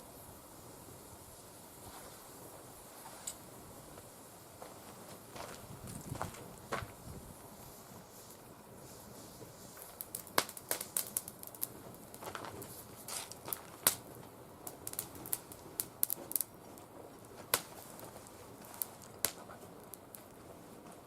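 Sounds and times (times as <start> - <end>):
twigs burning crackling and popping: 1.0 - 21.0.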